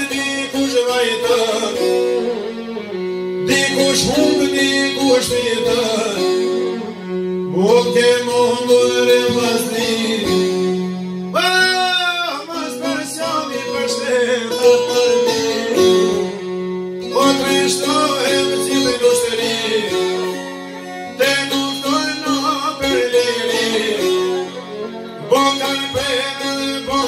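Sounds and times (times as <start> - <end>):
man singing mournful song: 0.0 - 2.6, 3.4 - 27.0
plucked string instruments: 0.0 - 27.0
violin: 0.0 - 27.0.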